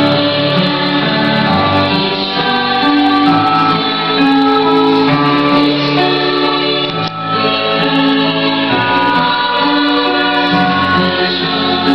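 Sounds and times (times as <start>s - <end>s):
choral singing: 0.0s - 11.9s.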